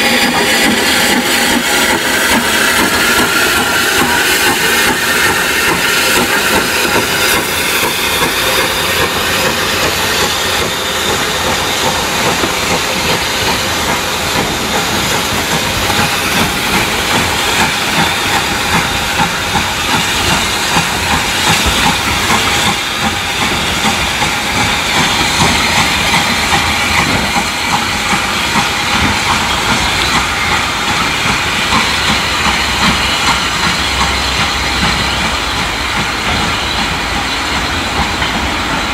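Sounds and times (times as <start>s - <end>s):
carriages rolling on track: 0.0s - 38.9s
steam locomotive hissing: 0.0s - 38.9s.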